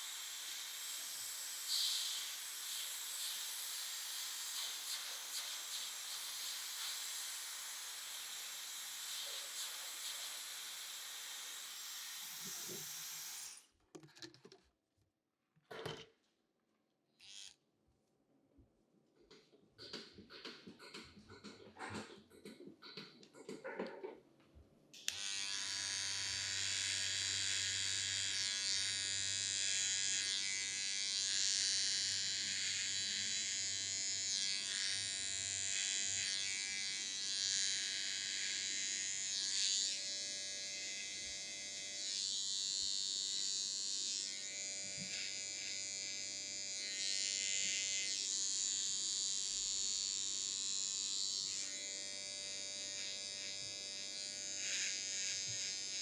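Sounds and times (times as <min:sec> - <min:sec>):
electric hair clippers buzzing: 0:00.0 - 0:13.6, 0:17.2 - 0:17.6, 0:25.0 - 0:56.0.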